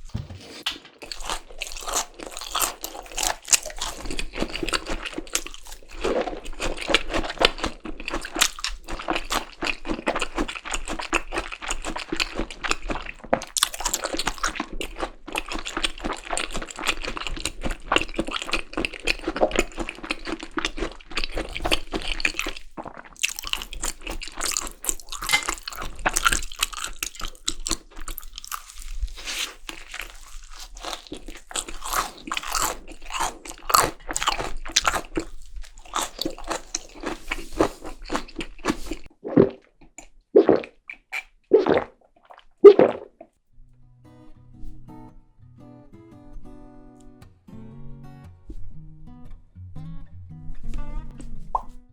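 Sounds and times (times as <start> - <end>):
wet chewing: 0.9 - 43.3.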